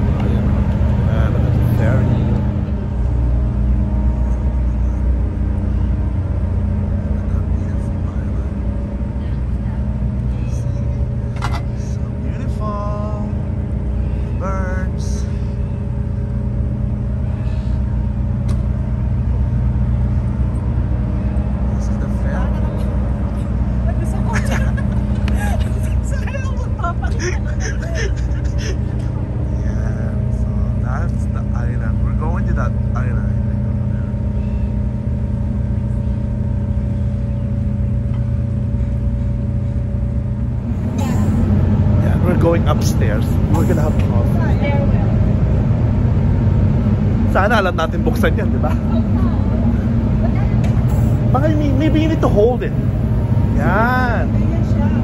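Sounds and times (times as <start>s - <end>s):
ferry diesel engines droning: 0.0s - 55.0s.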